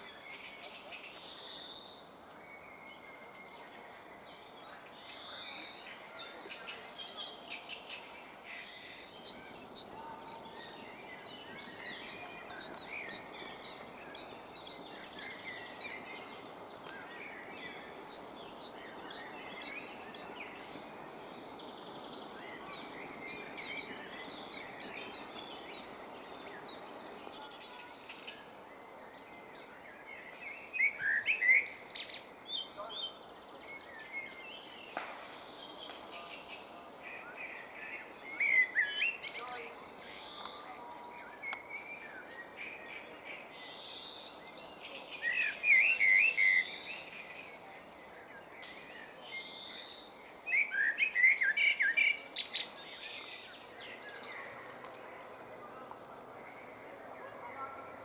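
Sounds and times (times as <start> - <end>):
blackbird warbling song: 0.0 - 58.0
great tit singing: 3.0 - 34.8, 35.4 - 55.5.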